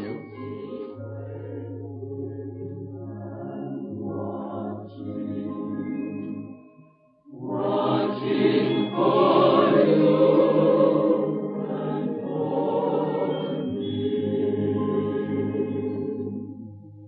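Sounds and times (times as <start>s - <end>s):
choir singing a hymn: 0.0s - 6.6s, 7.3s - 16.7s.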